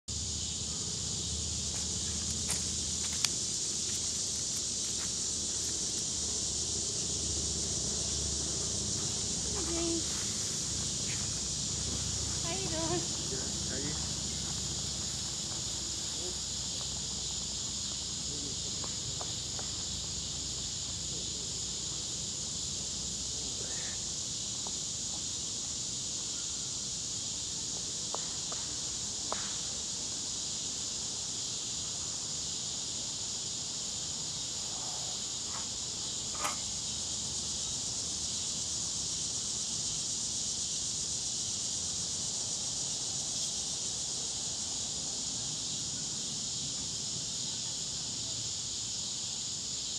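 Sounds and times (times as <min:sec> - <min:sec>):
insect chorus drone: 0:00.1 - 0:49.9.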